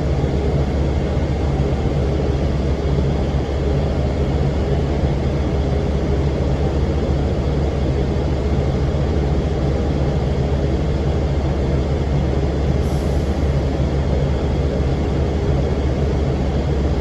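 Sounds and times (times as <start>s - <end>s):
bus diesel engine droning: 0.0s - 17.0s
engine cooling fan rushing: 0.0s - 17.0s.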